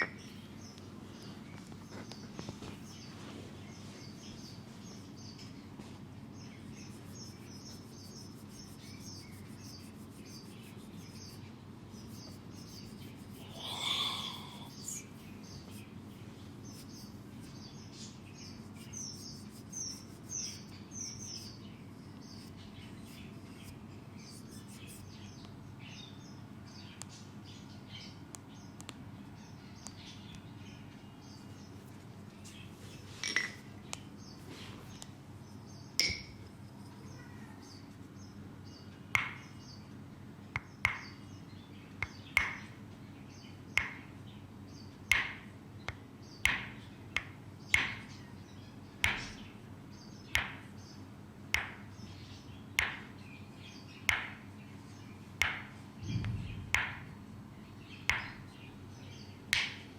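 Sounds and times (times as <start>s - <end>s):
small birds chirping: 0.0s - 59.9s
steady low hum: 0.1s - 37.0s, 48.2s - 59.9s.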